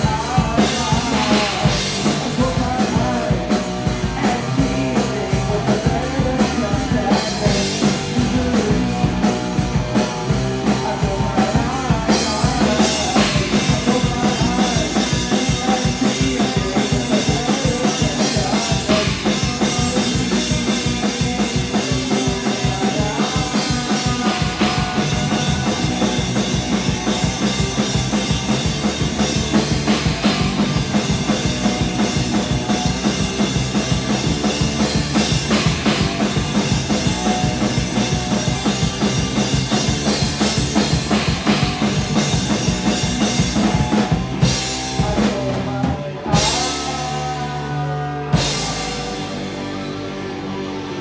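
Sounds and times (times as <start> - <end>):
drum kit pounding: 0.0 - 51.0
rock band playing: 0.0 - 51.0.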